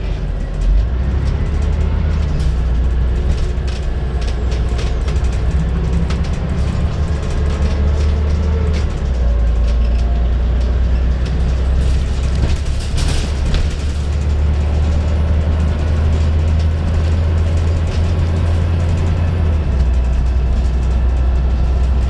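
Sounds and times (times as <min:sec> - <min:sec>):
bus engine drone: 0:00.0 - 0:22.0
rattles and clicks from bus body: 0:00.0 - 0:22.0.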